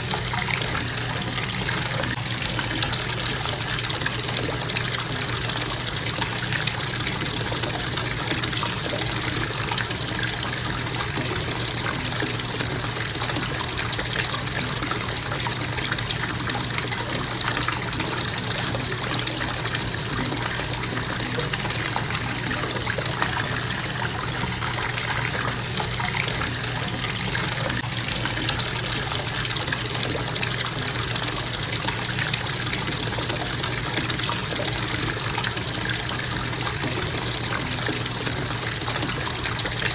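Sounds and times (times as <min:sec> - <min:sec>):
faucet running into bathtub: 0:00.0 - 0:39.9.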